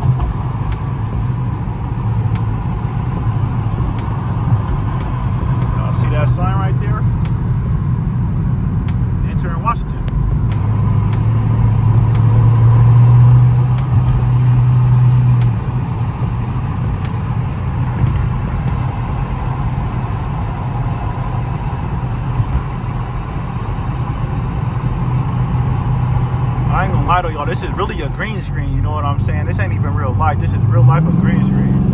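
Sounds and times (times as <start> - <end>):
car exhaust droning: 0.0 - 31.9
road noise: 0.0 - 31.9.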